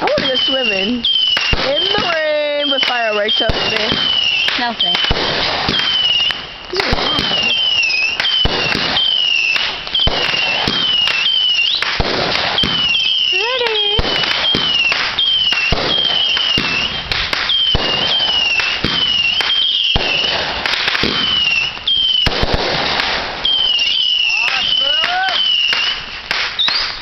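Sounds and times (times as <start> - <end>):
crackling hiss: 0.0 - 27.0
fireworks bangs: 0.0 - 27.0
high falling whistles: 0.2 - 11.9, 12.6 - 20.3, 21.2 - 22.4, 23.4 - 27.0.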